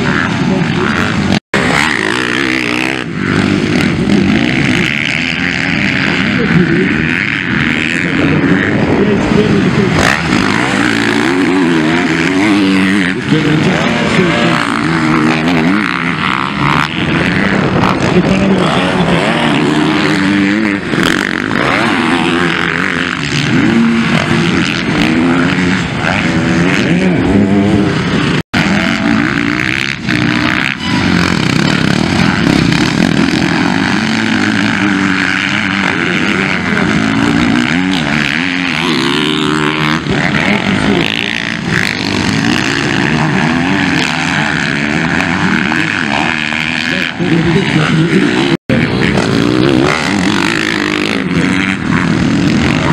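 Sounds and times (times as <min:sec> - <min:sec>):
motocross bikes revving: 0:00.0 - 0:52.9.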